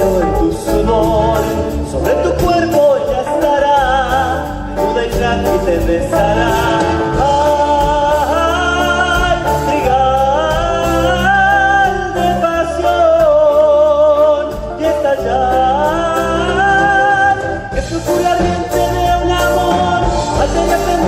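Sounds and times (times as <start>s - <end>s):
folk band song: 0.0s - 21.0s
sliding melody line: 0.0s - 21.0s.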